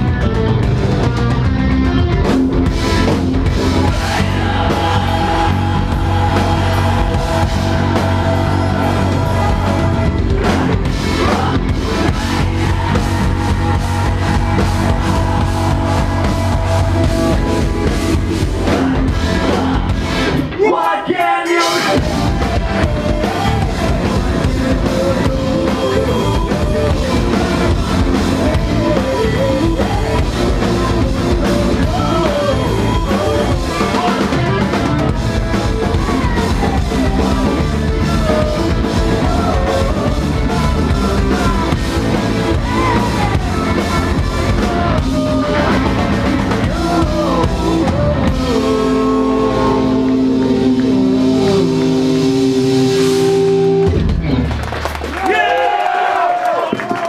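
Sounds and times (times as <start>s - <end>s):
electric guitar: 0.0s - 20.6s, 21.7s - 55.3s
live rock band playing: 0.0s - 55.2s
drum kit: 0.0s - 55.7s.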